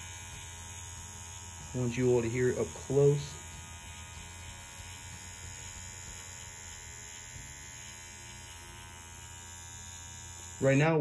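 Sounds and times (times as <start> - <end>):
tattoo machine humming: 0.0 - 11.0.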